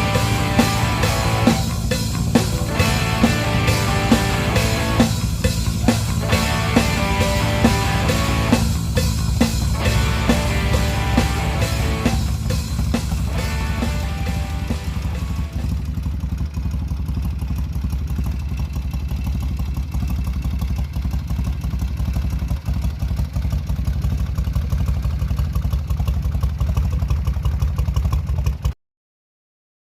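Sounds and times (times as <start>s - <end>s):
motorcycle engine running: 0.0s - 28.8s.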